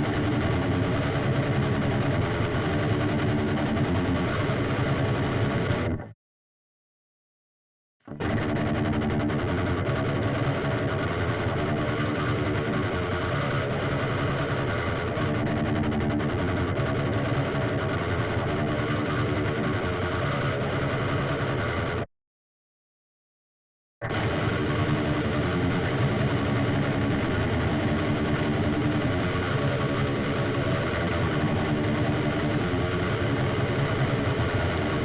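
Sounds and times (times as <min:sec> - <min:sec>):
distorted electric guitar riff: 0:00.0 - 0:06.2, 0:08.1 - 0:22.1, 0:24.0 - 0:35.0.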